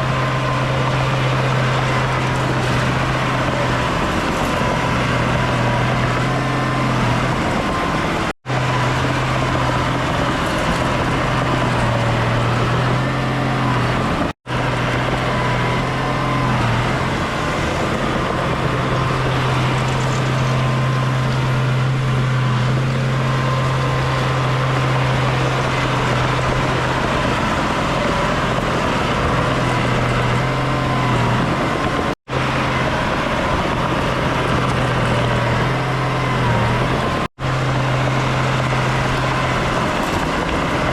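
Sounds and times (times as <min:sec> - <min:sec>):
diesel machinery engine drone: 0:00.0 - 0:40.9.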